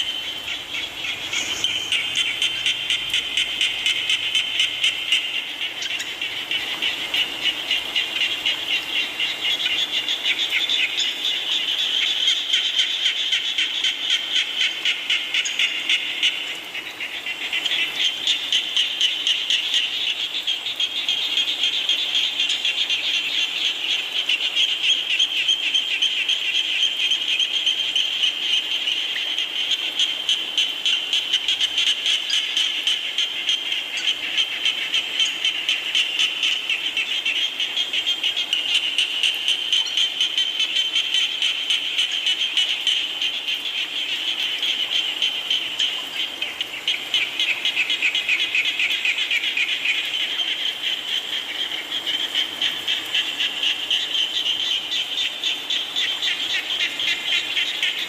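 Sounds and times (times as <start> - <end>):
frogs calling in trills: 0.0 - 58.0.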